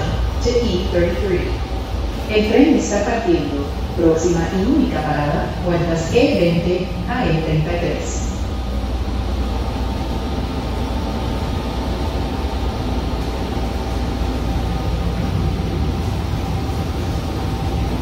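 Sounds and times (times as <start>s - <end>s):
faint constant whine: 0.0s - 18.0s
tram rumbling along guideway: 0.0s - 18.0s.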